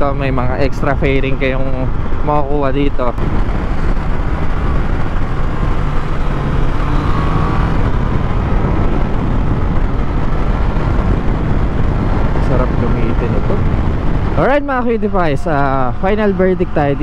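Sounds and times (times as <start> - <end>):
motorcycle engine cruising: 0.0 - 17.0
road noise: 0.0 - 17.0.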